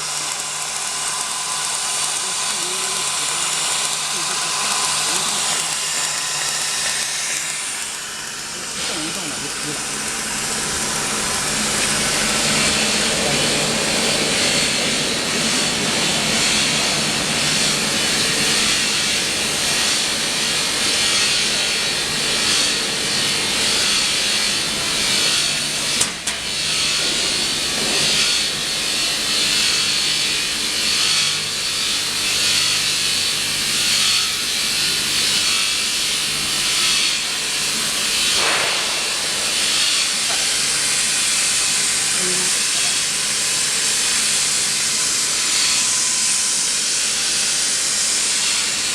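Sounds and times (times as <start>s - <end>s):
machine hum: 0.0s - 48.8s
welding arc crackling hiss: 0.0s - 48.9s.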